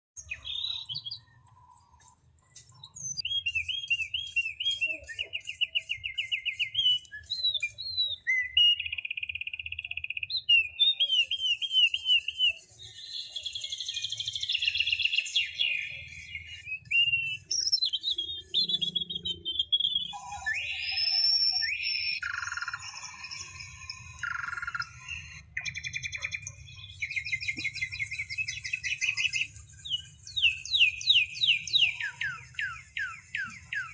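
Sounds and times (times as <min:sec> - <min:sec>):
songbird singing: 0:00.2 - 0:33.9.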